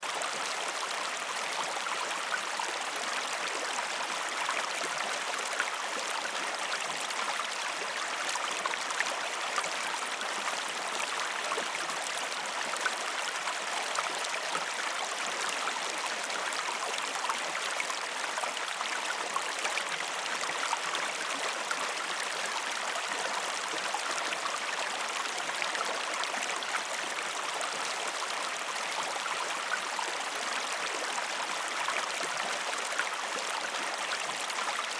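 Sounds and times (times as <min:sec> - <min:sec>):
river water flowing over stones: 0:00.1 - 0:34.9.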